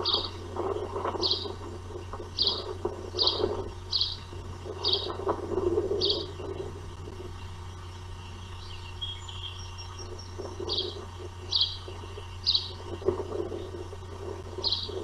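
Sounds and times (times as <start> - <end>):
osprey whistled calls: 0.0 - 5.2, 5.9 - 6.8, 7.4 - 13.9, 14.5 - 15.0
steady low hum: 0.0 - 15.0.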